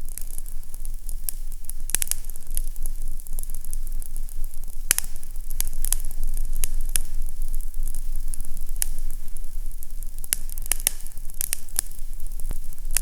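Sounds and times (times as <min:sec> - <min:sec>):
fire crackling and popping: 0:00.0 - 0:13.0
fire hiss and rumble: 0:00.0 - 0:13.0.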